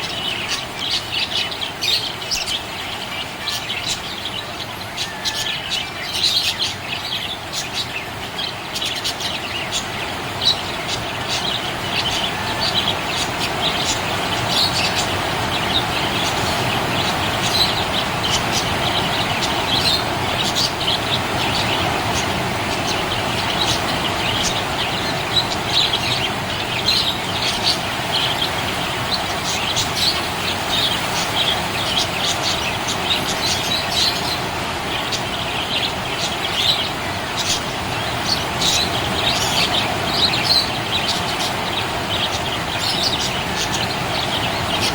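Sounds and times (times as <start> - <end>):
steady background hiss: 0.0 - 44.9.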